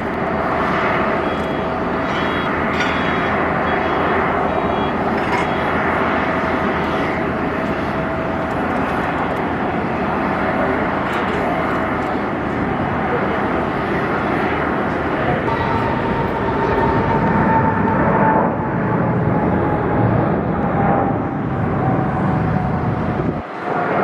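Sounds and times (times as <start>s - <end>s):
faint whining tones: 0.0s - 23.8s
jet engines roaring: 0.0s - 24.0s.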